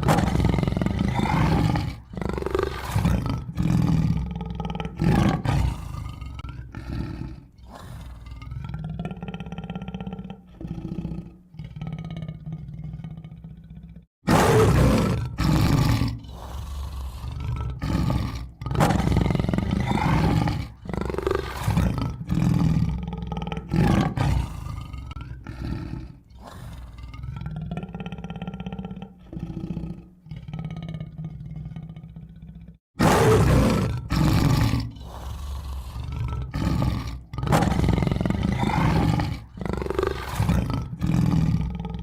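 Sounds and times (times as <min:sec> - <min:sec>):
tiger growling and roaring: 0:00.0 - 0:42.0.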